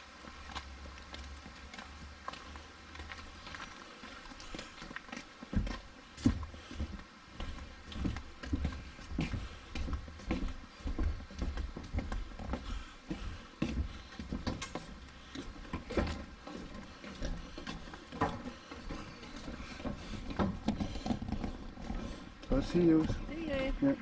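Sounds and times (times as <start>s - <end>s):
footsteps on a trail: 0.0s - 24.0s.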